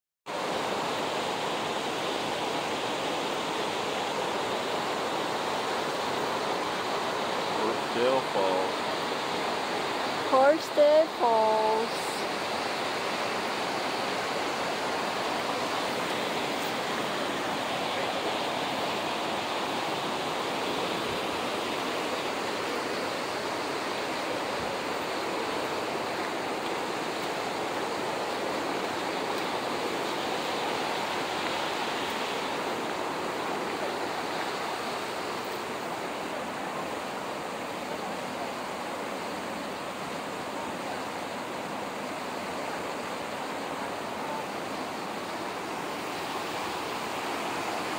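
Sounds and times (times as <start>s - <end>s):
waterfall rushing: 0.3s - 47.9s.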